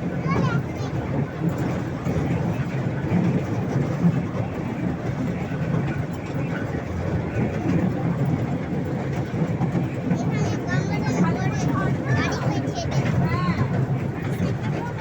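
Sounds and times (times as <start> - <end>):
toy train rumbling on track: 0.0 - 15.0.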